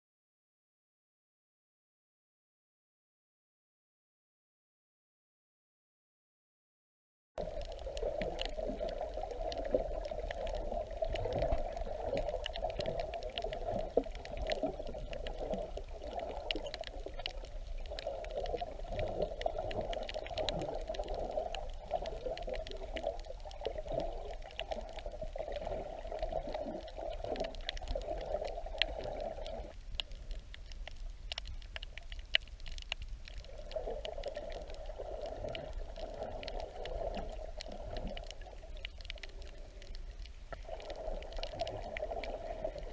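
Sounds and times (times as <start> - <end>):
faint crackling clicks: 7.4 - 42.9
muffled underwater rushing: 7.4 - 42.9.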